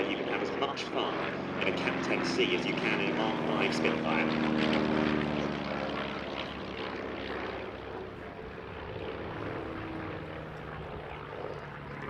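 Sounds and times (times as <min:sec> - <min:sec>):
propeller aircraft engine drone: 0:00.0 - 0:12.0.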